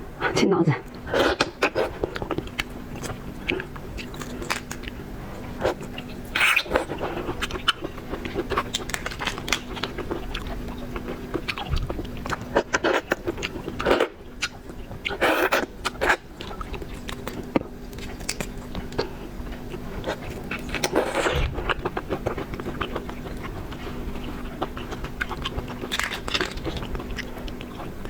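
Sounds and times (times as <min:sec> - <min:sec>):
crunching and chewing shrimp: 0:00.9 - 0:28.0.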